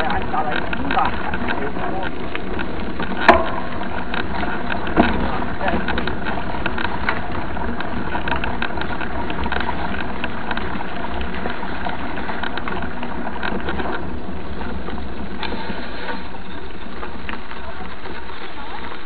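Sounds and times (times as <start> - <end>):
bike rattles and knocks: 0.0 - 19.0
bike tyres rumbling on gravel: 0.0 - 19.0.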